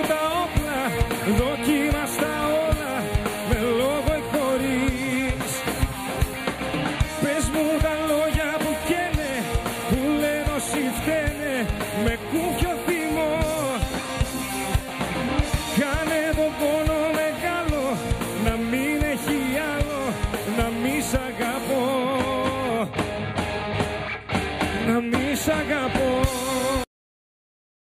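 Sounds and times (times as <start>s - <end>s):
man singing: 0.0s - 5.9s, 7.0s - 14.2s, 15.5s - 23.0s, 24.8s - 26.9s
drum hits on steady beat: 0.0s - 26.8s
live rock band playing: 0.0s - 26.8s.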